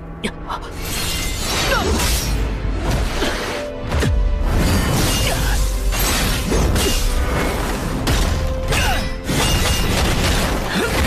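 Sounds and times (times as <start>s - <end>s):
background score music: 0.0s - 11.0s.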